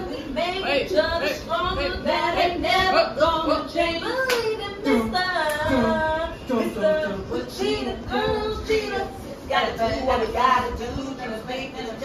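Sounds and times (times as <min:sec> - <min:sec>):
women singing: 0:00.0 - 0:12.0.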